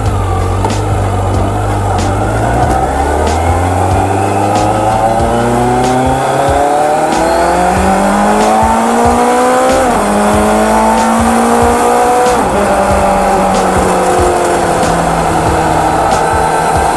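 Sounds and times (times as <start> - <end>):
motorcycle engine accelerating: 0.0 - 16.9.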